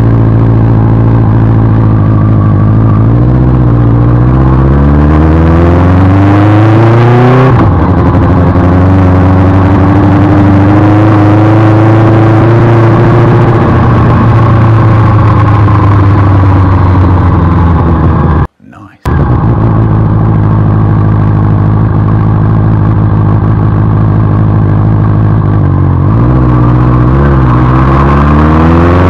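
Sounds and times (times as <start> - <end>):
motorcycle engine accelerating: 0.0 - 18.5, 19.1 - 29.0.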